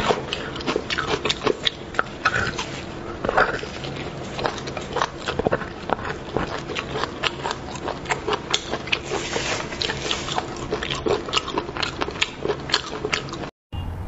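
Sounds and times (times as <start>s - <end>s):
wet chewing and mouth smacks: 0.0s - 13.5s.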